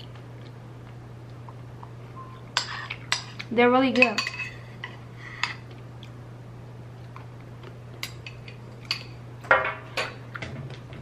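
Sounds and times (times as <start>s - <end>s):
quiet eating sounds: 0.0s - 9.2s
steady low hum: 0.0s - 11.0s.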